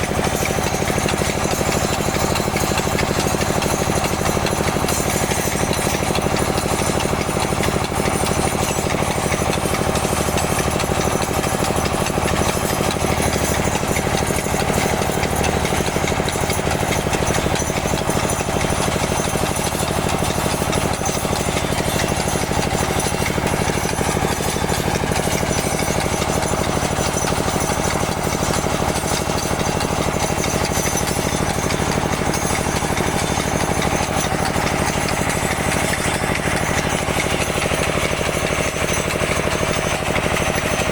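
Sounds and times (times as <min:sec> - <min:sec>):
drill machine pulsing chatter: 0:00.1 - 0:40.9.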